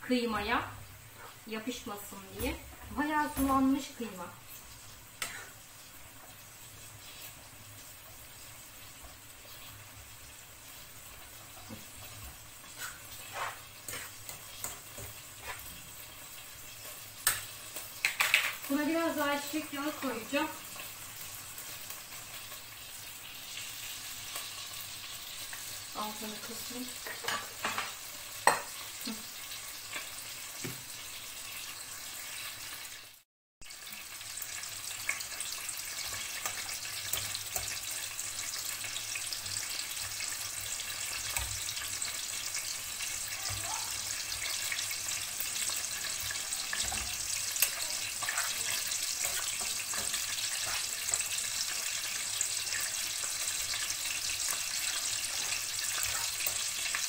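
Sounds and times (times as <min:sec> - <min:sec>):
meat sizzling in a pan: 0:00.0 - 0:57.0.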